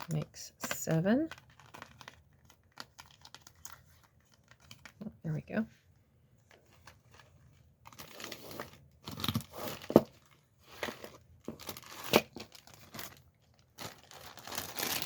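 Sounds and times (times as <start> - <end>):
bag crinkling and rustling: 0.0 - 5.0, 6.4 - 15.0.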